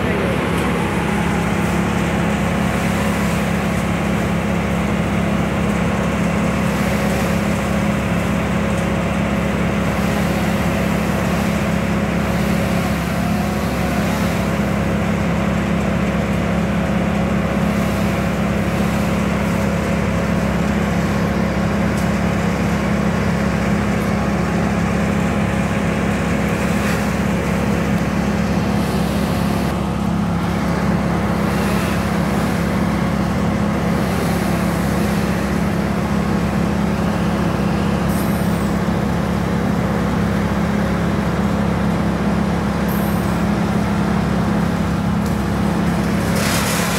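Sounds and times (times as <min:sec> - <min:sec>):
large engine droning: 0:00.0 - 0:46.9.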